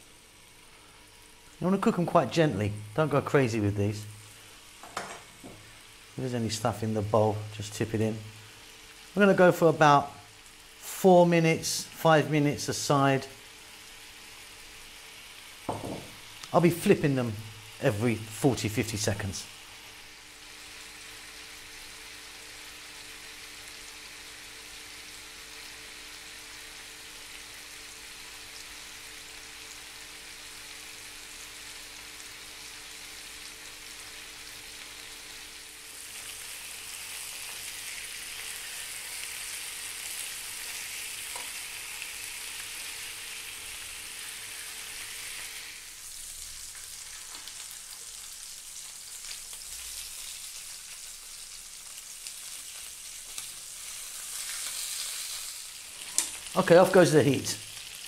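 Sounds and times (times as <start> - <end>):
chicken sizzling in a pan: 0.0 - 58.0.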